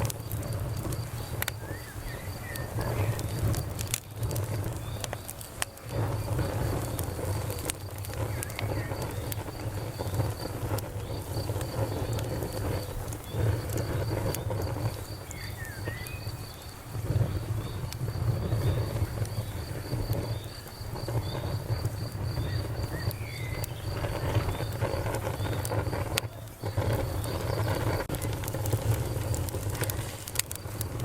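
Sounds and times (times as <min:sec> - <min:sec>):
campfire wood crackling and popping: 0:00.0 - 0:31.0
crickets chirping: 0:00.0 - 0:31.0
steady low rumble: 0:00.0 - 0:31.0.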